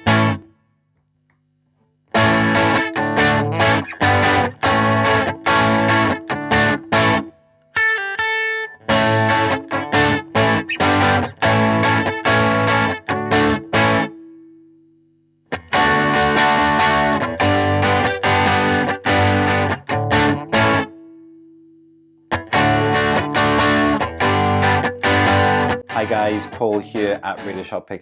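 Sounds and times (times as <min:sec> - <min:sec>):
overdriven electric guitar strumming: 0:00.0 - 0:00.5, 0:02.1 - 0:14.6, 0:15.5 - 0:21.6, 0:22.2 - 0:27.8.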